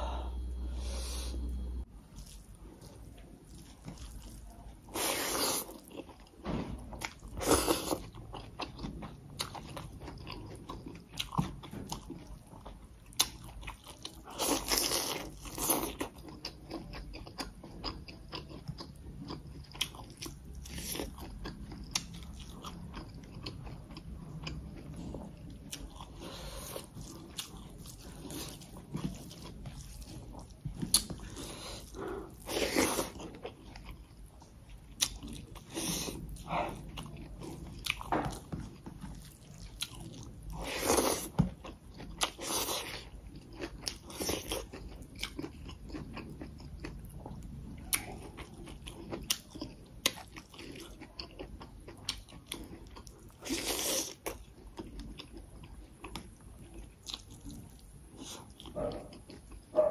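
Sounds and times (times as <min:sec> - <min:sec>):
chewing and wet mouth sounds: 0:01.9 - 0:59.9.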